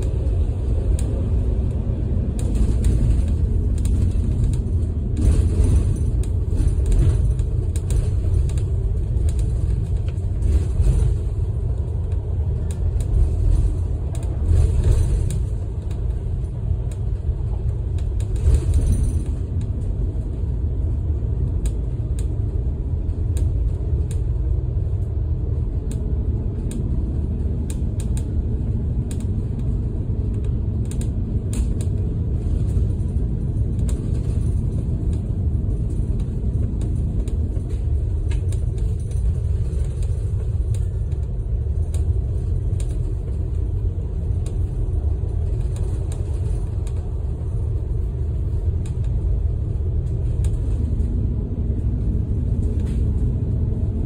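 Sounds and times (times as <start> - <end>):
large vehicle engine rumble: 0.0 - 54.0
tyres on road: 0.0 - 54.0.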